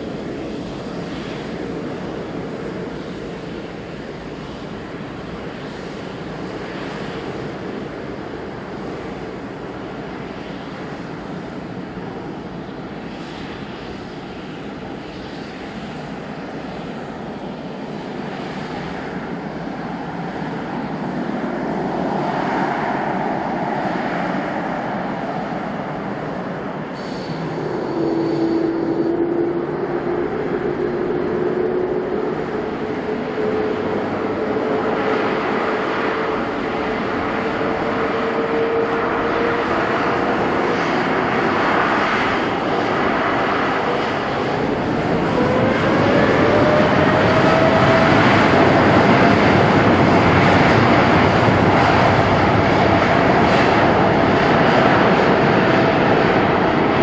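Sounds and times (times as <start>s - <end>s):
jet engine whine rising: 0.0s - 57.0s
jet engines running: 0.0s - 57.0s.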